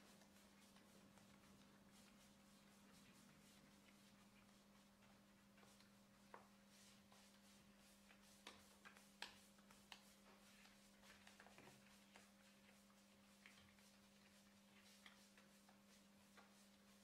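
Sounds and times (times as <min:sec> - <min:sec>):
paintbrush strokes on wood: 0:00.0 - 0:17.0.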